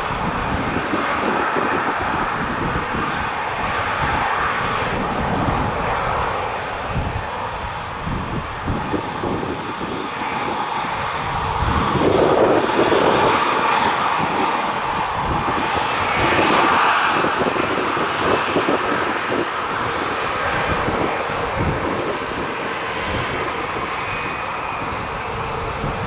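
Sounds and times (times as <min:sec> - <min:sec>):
aircraft engine noise: 0:00.0 - 0:26.0
wind buffeting microphone: 0:00.0 - 0:26.0.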